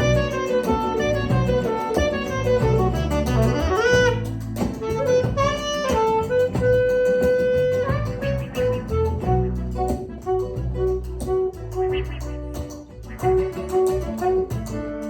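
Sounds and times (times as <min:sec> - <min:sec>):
guitar: 0:00.0 - 0:15.0
lead melody line: 0:00.0 - 0:15.0
steady bass: 0:00.0 - 0:15.0.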